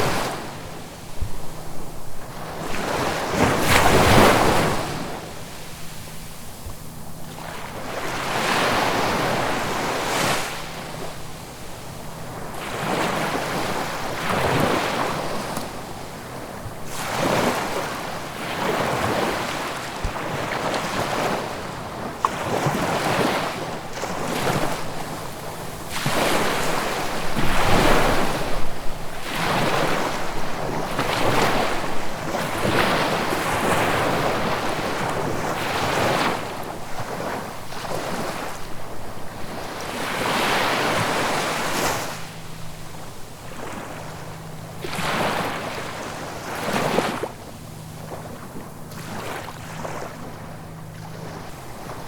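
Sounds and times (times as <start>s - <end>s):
sea waves washing in: 0.0s - 52.0s.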